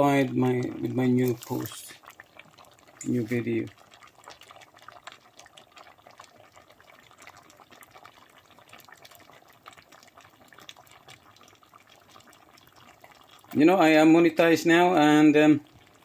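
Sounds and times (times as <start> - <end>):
stew simmering with small pops: 0.0 - 16.0.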